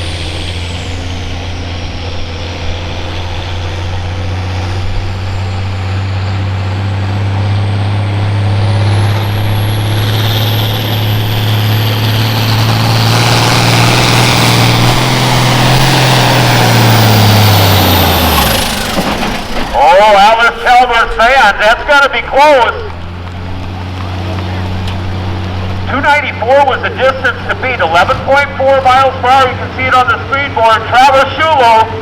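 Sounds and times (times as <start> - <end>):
engine running hard under load: 0.0 - 32.0.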